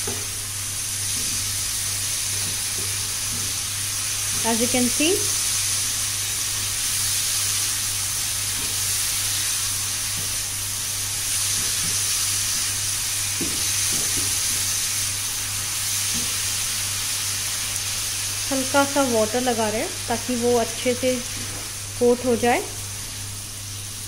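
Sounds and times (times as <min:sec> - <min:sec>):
chicken sizzling in frying pan: 0:00.0 - 0:24.0.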